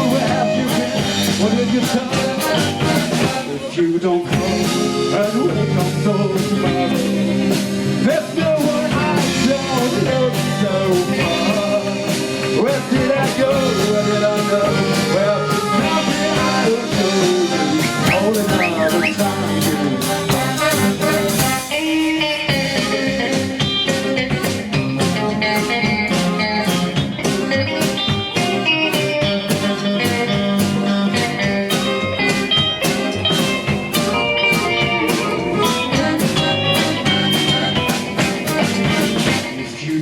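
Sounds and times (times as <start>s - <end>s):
blues rock band instrumental: 0.0s - 40.0s.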